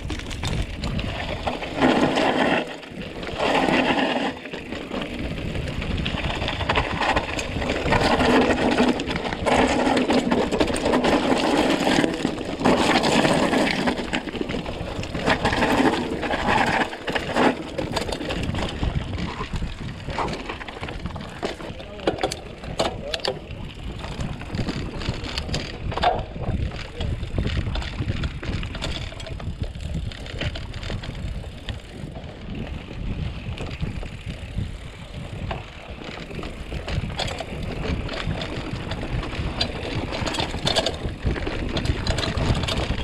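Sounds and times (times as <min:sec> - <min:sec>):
mountain bike rattling on trail: 0:00.0 - 0:43.0.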